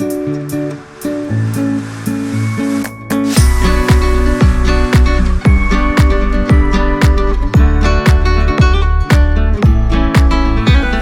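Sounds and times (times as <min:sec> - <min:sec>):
guitar music: 0:00.0 - 0:11.0
heavy bass and drum beat: 0:00.0 - 0:11.0.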